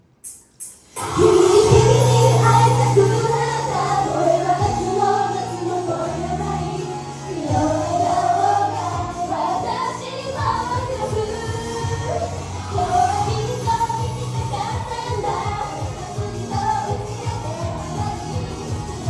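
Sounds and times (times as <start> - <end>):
pop backing track with bass: 0.2 - 19.0
women singing together: 1.0 - 19.0.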